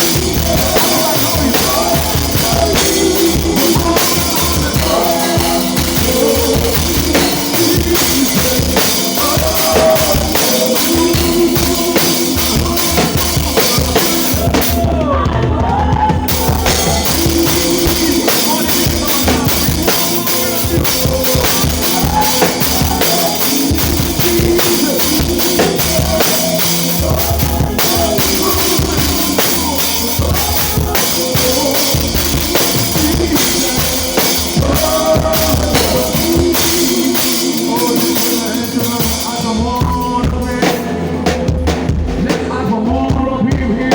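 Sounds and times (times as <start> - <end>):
drum kit with cymbals: 0.0 - 43.9
worship band playing: 0.0 - 43.9.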